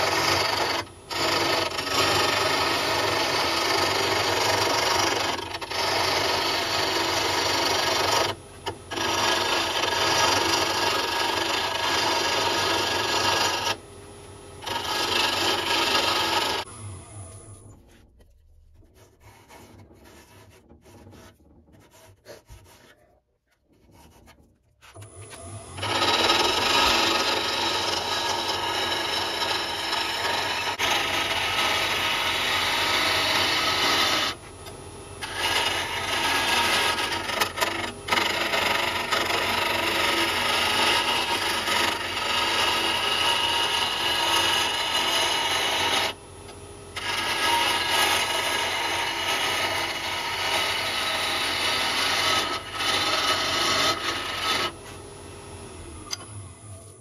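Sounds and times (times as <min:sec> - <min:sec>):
lathe tool scraping wood: 0:00.0 - 0:13.9, 0:14.5 - 0:46.2, 0:46.9 - 0:55.1.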